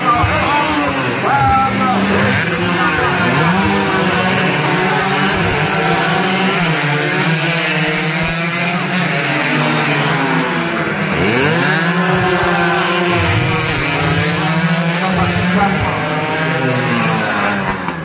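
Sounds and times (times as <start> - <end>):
race motorcycles running hard: 0.0 - 18.0.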